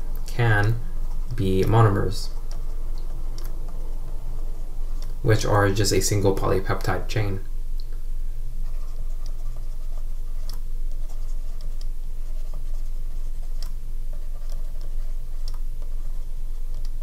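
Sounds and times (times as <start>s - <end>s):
stylus scratching on tablet screen: 0.0s - 7.1s, 8.5s - 17.0s
steady low hum: 0.0s - 17.0s.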